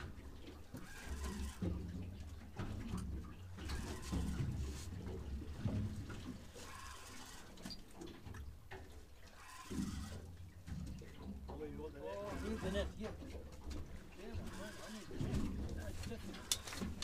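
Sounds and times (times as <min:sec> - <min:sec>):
water slapping against hull: 0:00.0 - 0:17.0.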